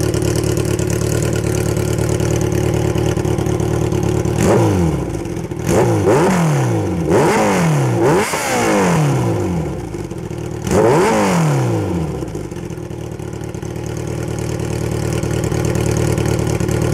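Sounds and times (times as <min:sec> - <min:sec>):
motorcycle engine idling: 0:00.0 - 0:16.9
motorcycle engine revving: 0:00.0 - 0:16.9.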